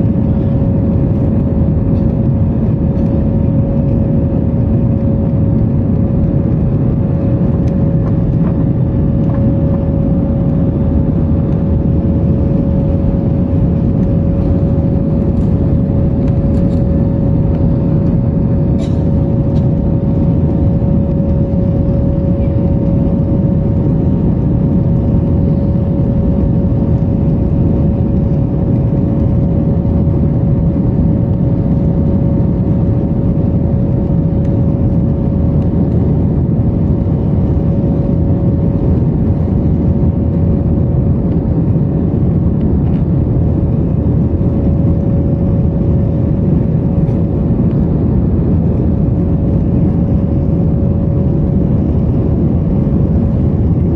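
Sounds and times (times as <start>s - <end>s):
jet engines droning: 0.0s - 53.9s.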